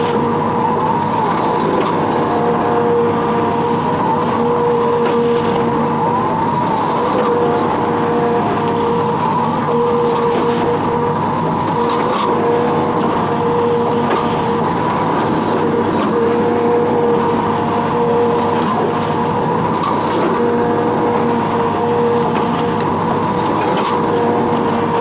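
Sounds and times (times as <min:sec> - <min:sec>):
excavator diesel engine running: 0:00.0 - 0:25.0
high whine: 0:00.0 - 0:25.0.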